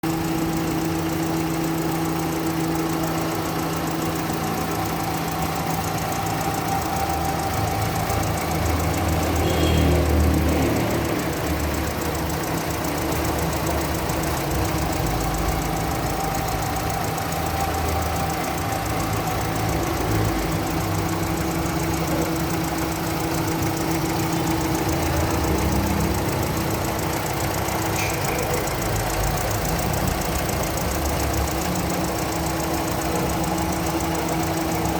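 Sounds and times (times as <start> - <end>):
car engine idling with ticking: 0.0 - 34.9.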